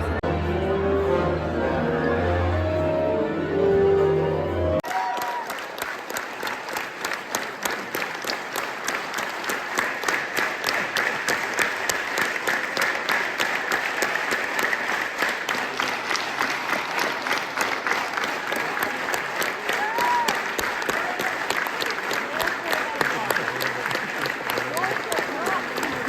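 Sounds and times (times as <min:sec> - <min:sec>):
audience applauding: 0:04.8 - 0:26.0.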